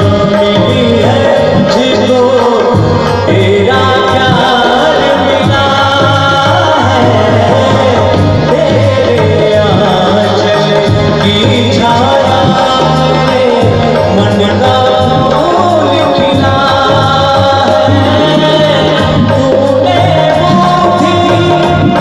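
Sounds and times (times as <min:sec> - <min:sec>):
drumming: 0:00.0 - 0:22.0
melodic instruments: 0:00.0 - 0:22.0
person singing folk song: 0:00.0 - 0:22.0.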